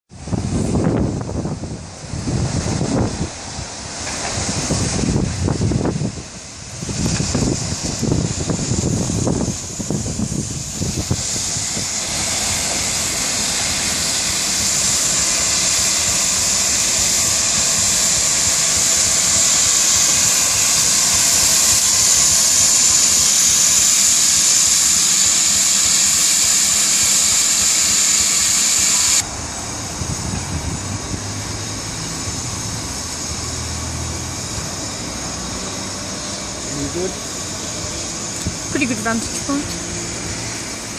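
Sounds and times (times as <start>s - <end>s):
steam hissing: 0.1s - 40.9s.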